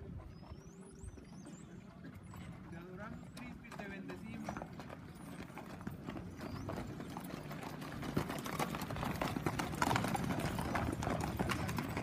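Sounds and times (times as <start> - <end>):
horse hooves clopping on stony ground: 0.0 - 12.0.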